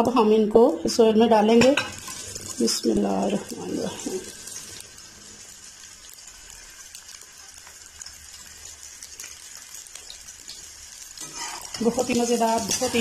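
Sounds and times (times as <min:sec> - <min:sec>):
okra sizzling in hot oil: 0:00.0 - 0:13.0.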